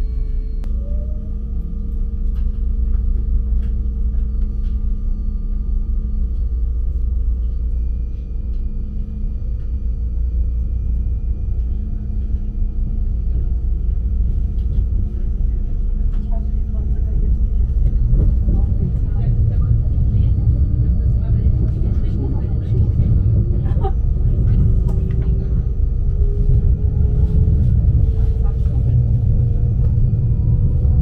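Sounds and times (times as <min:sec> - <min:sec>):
faint whining tones: 0:00.0 - 0:31.0
train low rumble: 0:00.0 - 0:31.0.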